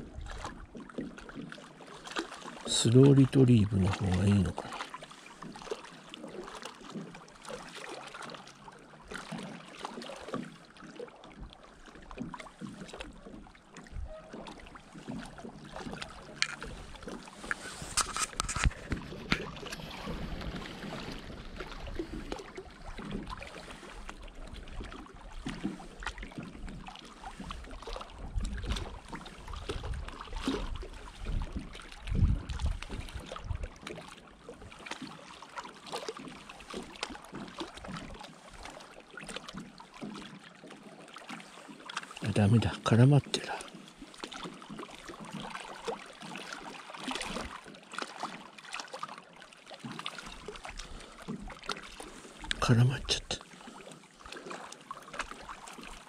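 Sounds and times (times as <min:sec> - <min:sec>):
lake water lapping: 0:00.0 - 0:56.0.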